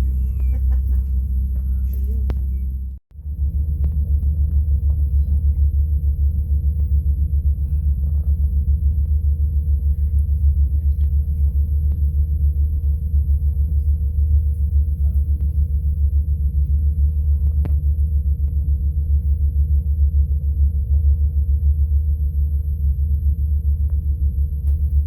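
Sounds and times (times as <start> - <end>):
constant hum tone: 0.0 - 25.0
low mechanical rumble throbbing: 0.0 - 25.0.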